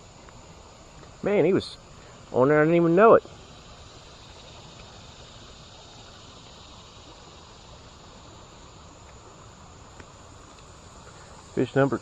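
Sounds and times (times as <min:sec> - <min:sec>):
creek water rushing: 0:00.0 - 0:12.0
insect chirring: 0:00.0 - 0:12.0.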